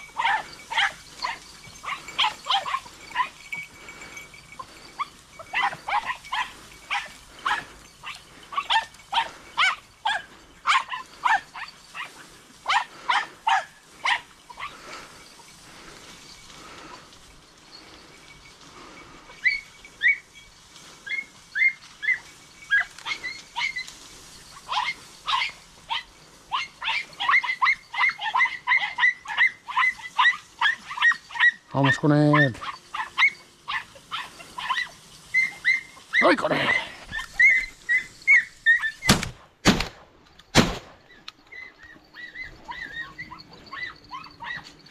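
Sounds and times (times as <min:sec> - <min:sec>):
hounds yelping: 0:00.0 - 0:39.3, 0:41.0 - 0:44.9.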